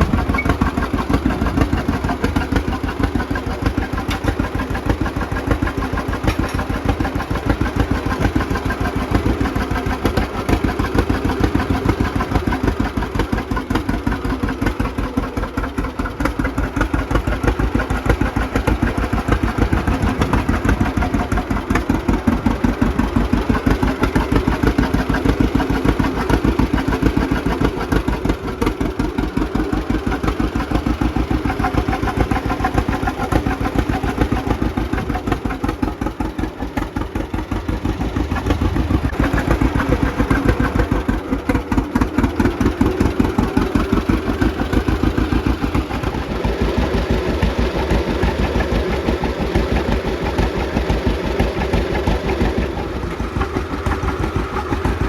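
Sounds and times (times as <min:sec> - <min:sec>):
tractor engine pulsing exhaust: 0:00.0 - 0:55.0.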